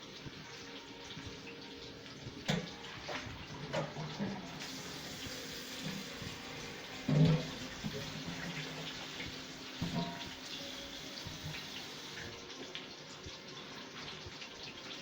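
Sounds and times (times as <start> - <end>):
meat sizzling in hot grease: 0.0 - 15.0.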